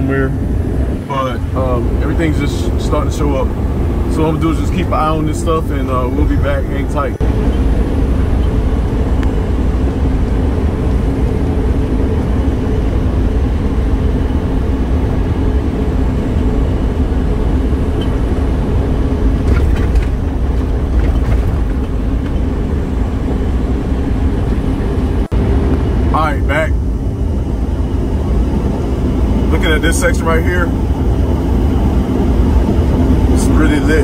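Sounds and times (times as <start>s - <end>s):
road and engine drone in car cabin: 0.0s - 34.0s.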